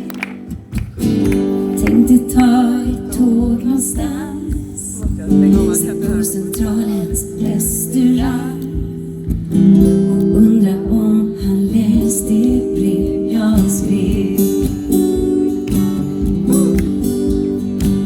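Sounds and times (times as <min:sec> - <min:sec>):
strummed acoustic guitar: 0:00.0 - 0:18.0
woman singing: 0:01.8 - 0:17.0.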